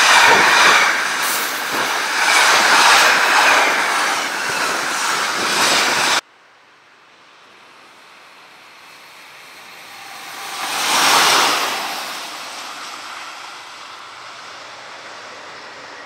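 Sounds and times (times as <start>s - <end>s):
locomotive wheels on rail: 0.0s - 6.2s, 7.4s - 16.0s.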